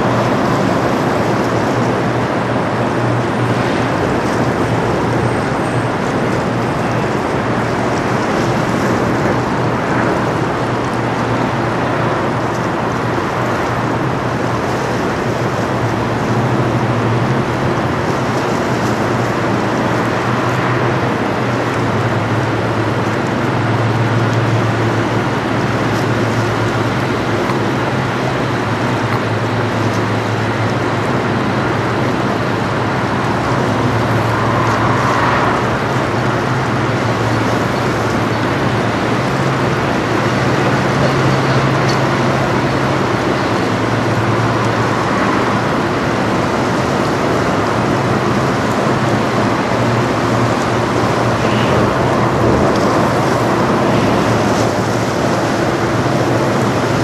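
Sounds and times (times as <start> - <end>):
ship engine low drone: 0.0 - 57.0
water rushing along hull: 0.0 - 57.0.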